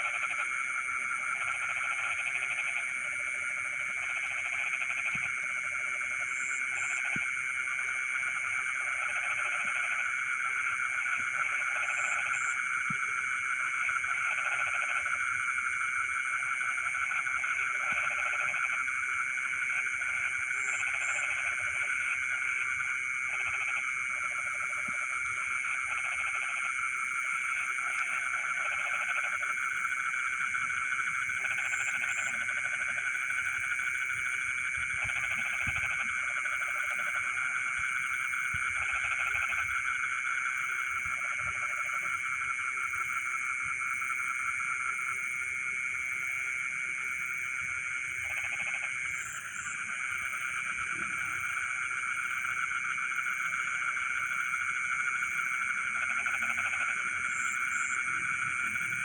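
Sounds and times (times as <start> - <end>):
frogs croaking: 0.0 - 59.0
frogs trilling: 0.0 - 59.0.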